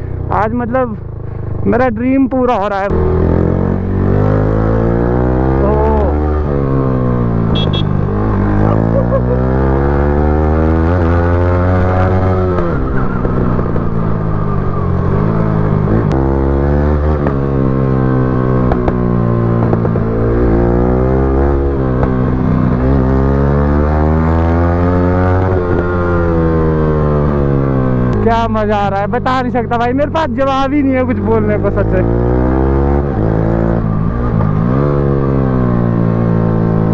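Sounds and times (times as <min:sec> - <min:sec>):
motorcycle engine revving: 0:02.6 - 0:36.9.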